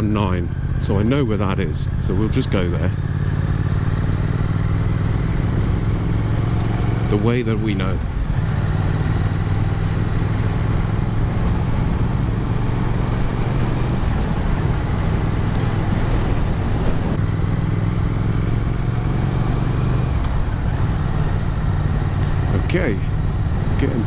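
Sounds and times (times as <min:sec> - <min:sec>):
motorcycle engine running: 0:00.0 - 0:24.0
rushing wind noise: 0:03.1 - 0:24.0.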